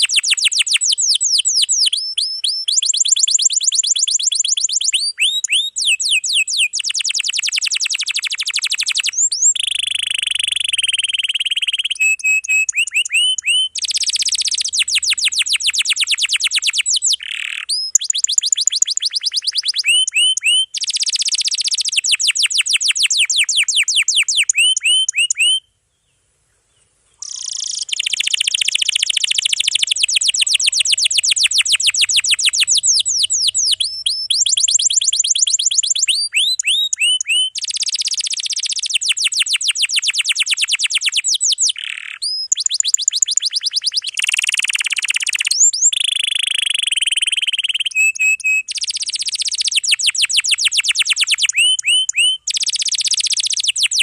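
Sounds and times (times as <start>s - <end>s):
canary singing trills: 0.0s - 25.8s, 26.6s - 54.0s.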